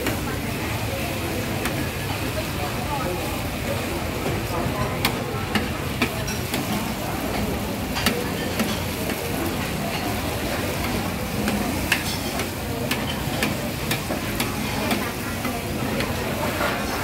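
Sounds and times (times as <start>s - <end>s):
noodles sizzling on a griddle: 0.0s - 17.0s.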